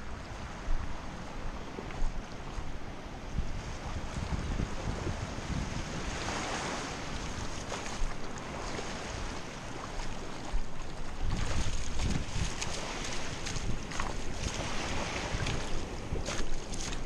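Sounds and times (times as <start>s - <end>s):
small waves washing on shore: 0.0s - 17.0s
wind buffeting microphone: 0.0s - 17.0s.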